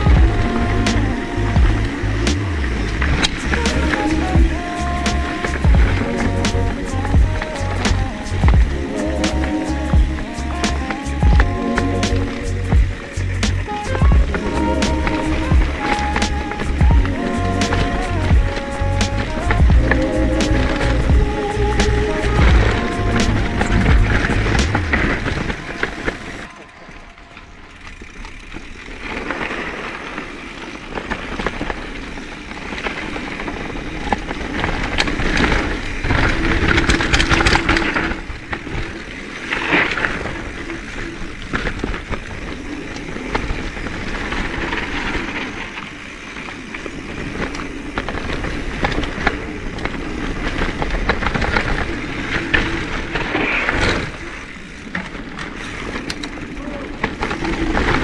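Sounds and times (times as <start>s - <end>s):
bike rattling and knocking: 0.0s - 58.0s
tyres rolling over dirt and rocks: 0.0s - 58.0s.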